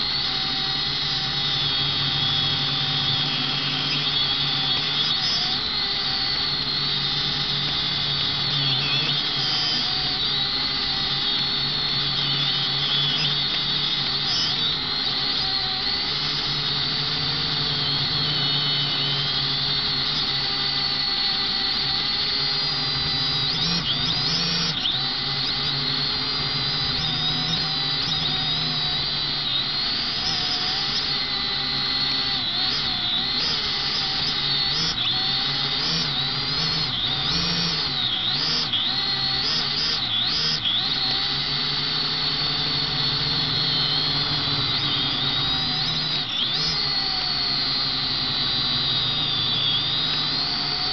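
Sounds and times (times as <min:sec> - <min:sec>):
drone propellers whining: 0:00.0 - 0:50.9.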